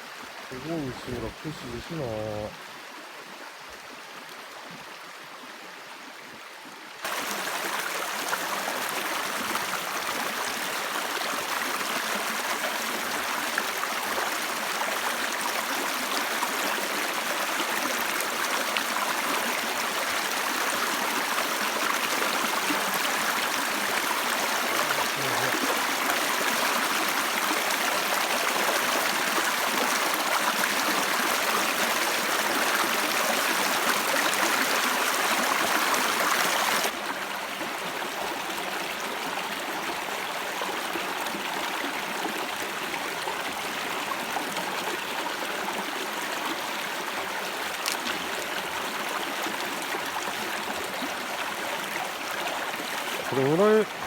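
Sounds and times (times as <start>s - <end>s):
stream water rushing: 7.0s - 54.0s.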